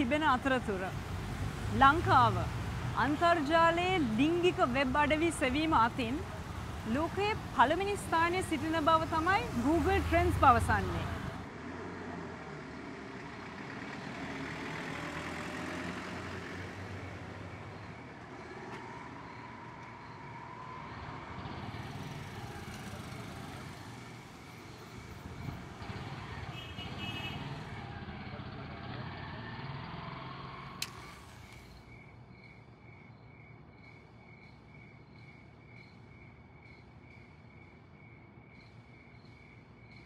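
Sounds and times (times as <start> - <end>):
passing vehicles rumble and hiss: 0.0 - 32.2.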